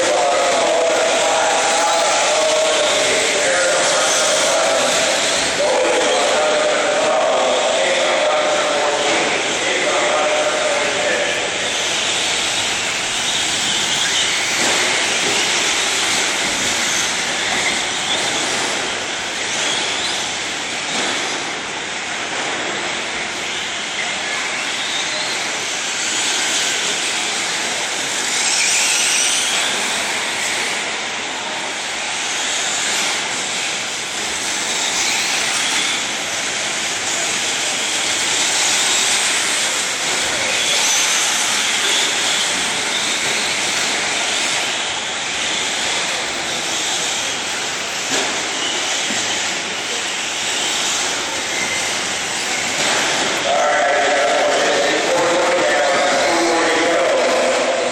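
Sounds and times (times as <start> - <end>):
steady wash of noise: 0.0 - 24.8, 29.0 - 57.9.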